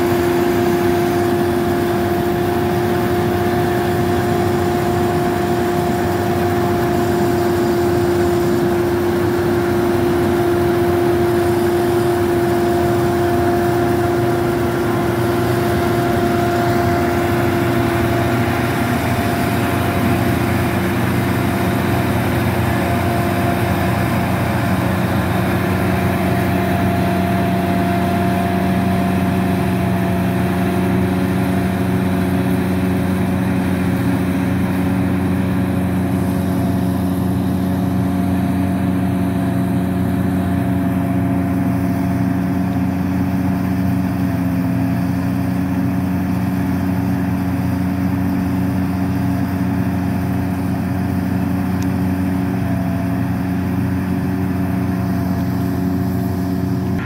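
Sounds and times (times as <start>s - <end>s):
combine harvester diesel engine: 0.0s - 57.0s.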